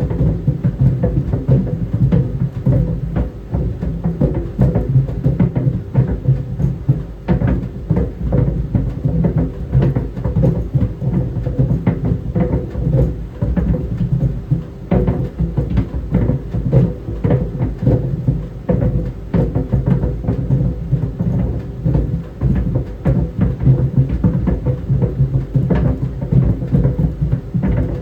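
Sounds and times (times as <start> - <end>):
balls thudding in dryer drum: 0.0 - 28.0
dryer running hum: 0.0 - 28.0.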